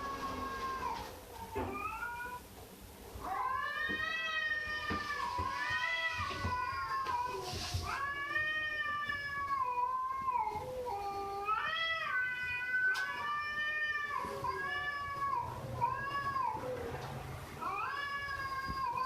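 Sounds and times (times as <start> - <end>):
cat meowing: 0.0 - 2.4, 3.2 - 16.8, 17.6 - 19.0.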